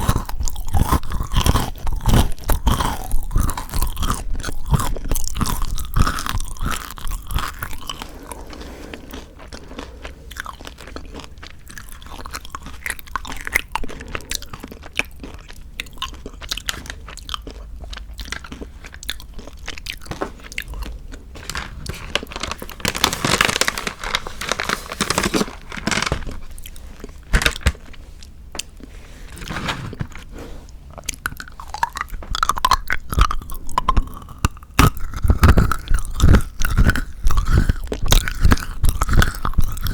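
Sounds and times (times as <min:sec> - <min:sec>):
chewing and crunching chocolate: 0:00.0 - 0:39.9.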